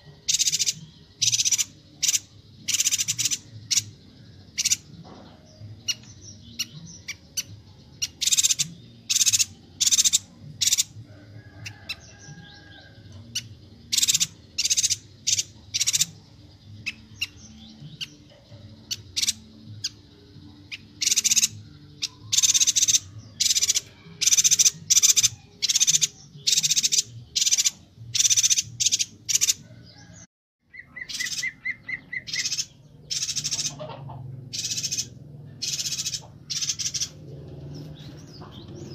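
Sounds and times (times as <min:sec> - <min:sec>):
bird chattering calls: 0:00.0 - 0:11.0, 0:11.6 - 0:29.6, 0:30.7 - 0:38.9.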